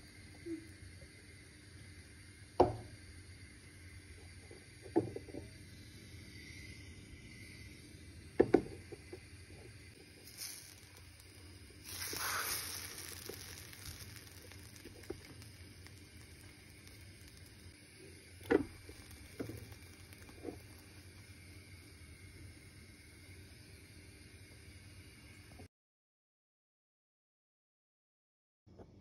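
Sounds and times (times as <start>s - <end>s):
batter sizzling in a frying pan: 0.0s - 25.5s.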